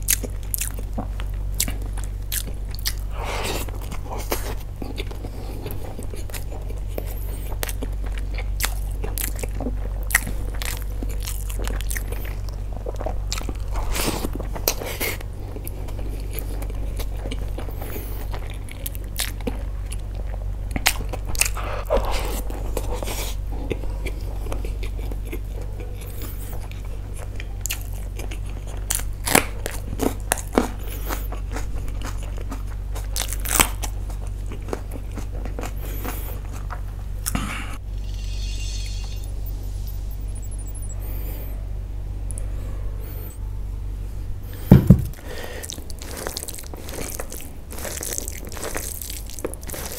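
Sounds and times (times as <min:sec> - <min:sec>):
chewing and biting: 0:00.0 - 0:37.8, 0:45.1 - 0:49.9
steady low hum: 0:00.0 - 0:49.9.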